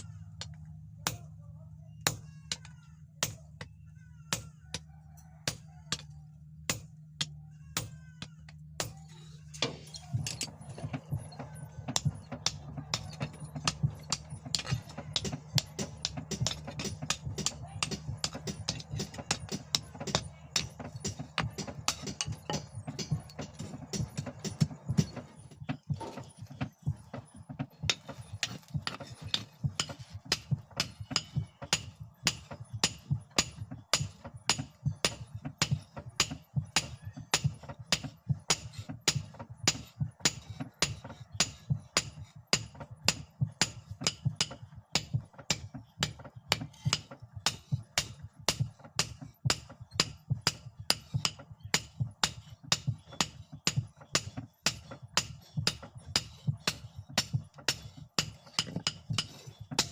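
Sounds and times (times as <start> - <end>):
hammer striking steel on anvil: 2.0 - 3.7, 4.3 - 59.9.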